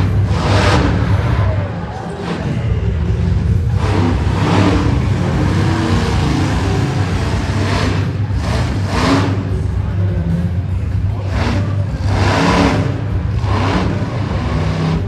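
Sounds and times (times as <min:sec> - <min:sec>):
truck engine rumbling and revving: 0:00.0 - 0:15.0.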